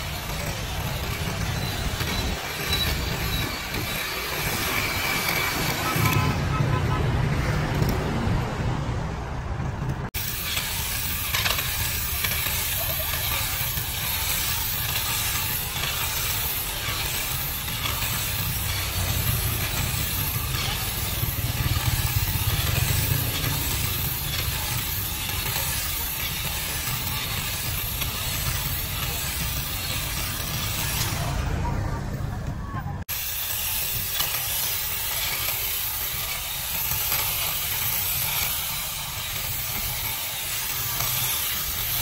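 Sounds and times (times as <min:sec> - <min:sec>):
hedge shear cutting weeds: 0:00.0 - 0:08.5, 0:09.9 - 0:31.9, 0:33.0 - 0:42.0.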